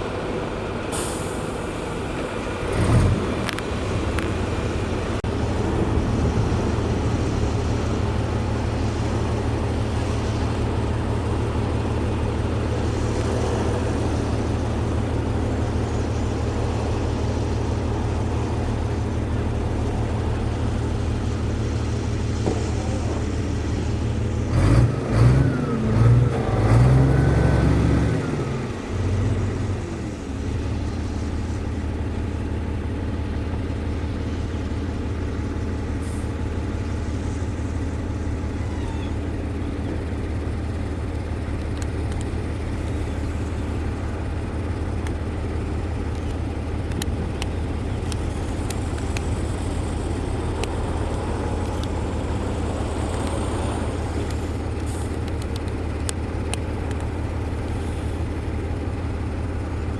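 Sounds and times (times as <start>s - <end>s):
diesel machine engine running: 0.0s - 59.9s.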